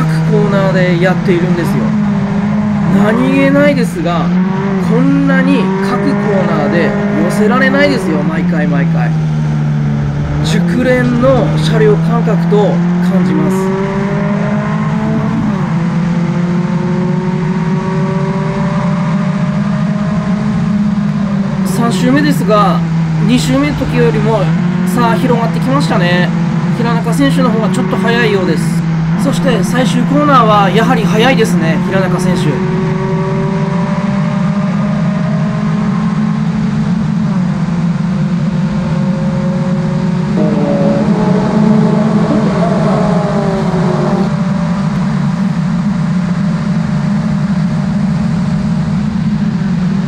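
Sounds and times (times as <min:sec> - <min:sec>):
race car engine at full throttle: 0:00.0 - 0:50.0.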